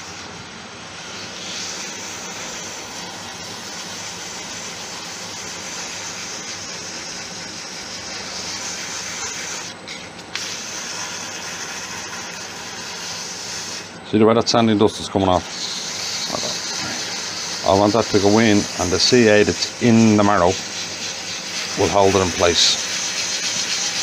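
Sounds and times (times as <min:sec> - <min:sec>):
sandpaper hissing on spinning antler: 0:00.0 - 0:14.0, 0:14.8 - 0:24.0
wood lathe running: 0:01.0 - 0:14.0, 0:14.8 - 0:24.0.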